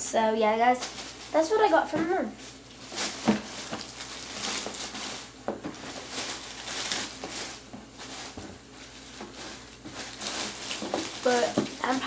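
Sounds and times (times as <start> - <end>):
rustling and crackling handling: 0.5 - 12.0.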